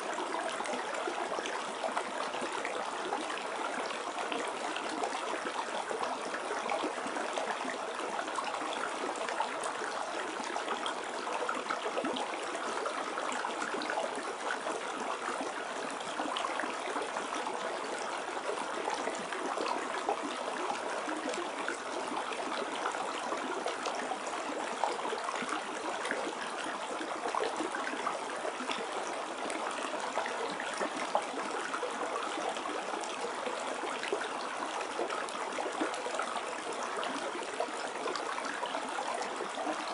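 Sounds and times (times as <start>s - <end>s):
trickling babbling water: 0.0s - 39.9s.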